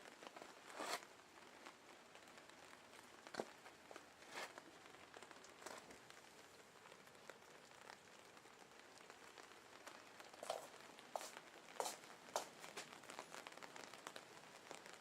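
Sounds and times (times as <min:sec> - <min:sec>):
light rain hiss: 0:00.0 - 0:15.0
rain drops ticking: 0:00.0 - 0:15.0.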